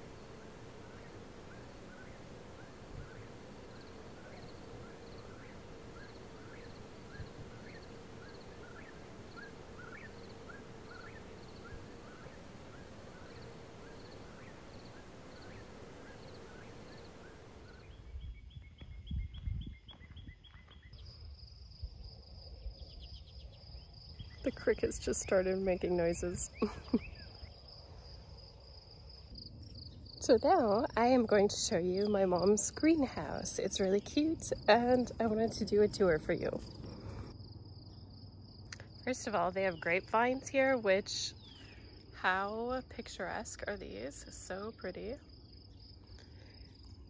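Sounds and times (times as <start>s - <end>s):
steady hiss and low hum: 0.0s - 19.8s, 21.1s - 47.0s
crickets chirping: 0.0s - 47.0s.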